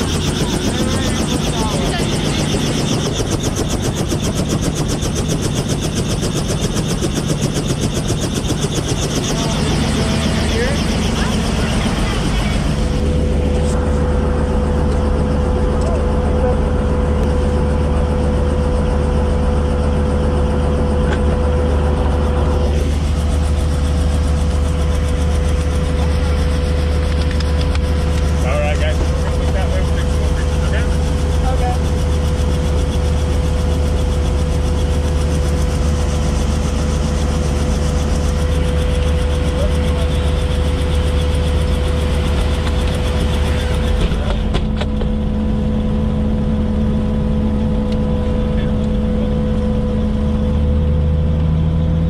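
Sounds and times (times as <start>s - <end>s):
engine hum: 0.0s - 52.0s
helicopter rotor chopping: 0.0s - 52.0s.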